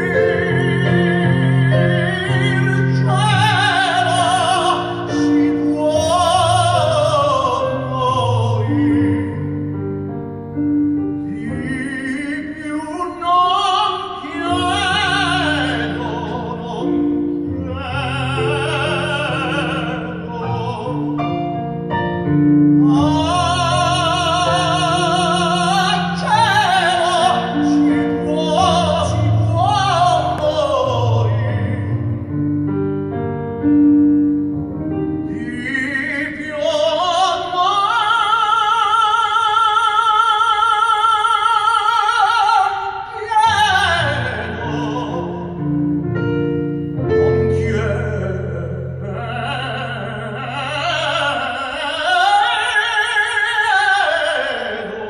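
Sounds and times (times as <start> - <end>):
operatic tenor singing: 0.0 - 32.5, 34.9 - 55.0
keyboard piano chords: 0.0 - 38.6, 41.5 - 54.0.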